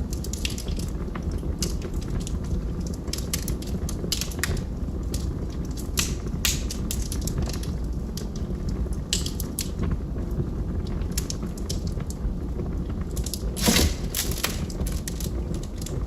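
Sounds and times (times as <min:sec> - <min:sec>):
fire pops and snaps: 0:00.0 - 0:16.0
log fire crackling: 0:00.0 - 0:16.0
low rumble of burning: 0:00.0 - 0:16.0.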